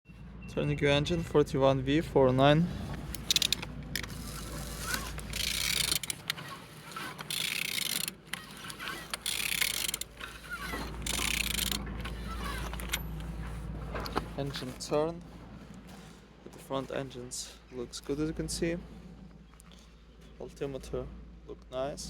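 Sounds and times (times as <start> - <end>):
engine turned over by hand rasping: 2.1 - 22.0.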